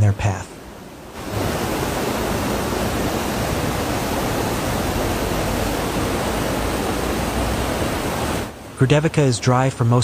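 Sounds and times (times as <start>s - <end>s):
floodwater rushing: 0.6s - 10.0s.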